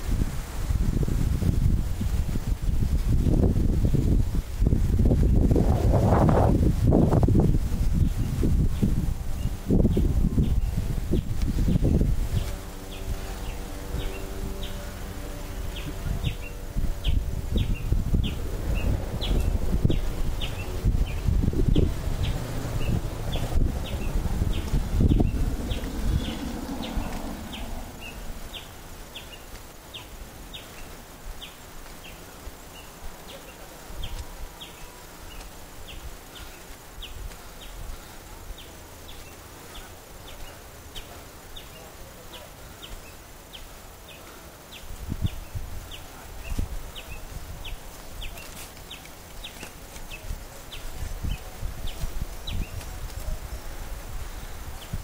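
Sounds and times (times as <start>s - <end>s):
insect chirping: 7.8s - 55.0s.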